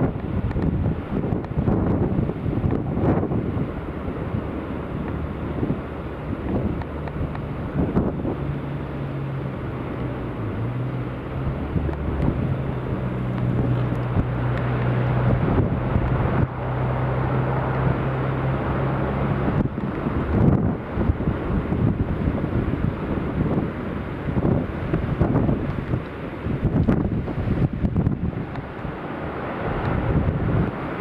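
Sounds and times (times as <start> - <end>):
heavy surf on sea wall: 0.0 - 31.0
storm wind blasting microphone: 0.0 - 31.0.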